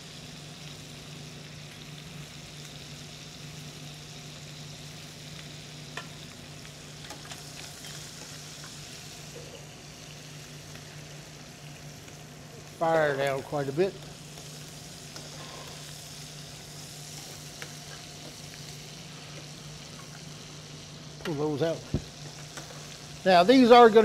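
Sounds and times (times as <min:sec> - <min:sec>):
shrimp sizzling in a skillet: 0:00.0 - 0:24.0.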